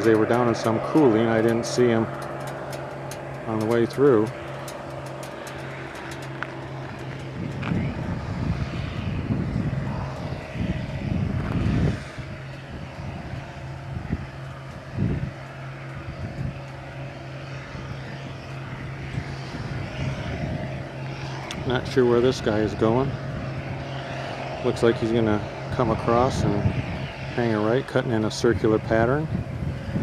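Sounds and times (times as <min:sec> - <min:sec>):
choppy low rumbles: 0:00.0 - 0:30.0
engine drone with road noise: 0:00.0 - 0:30.0.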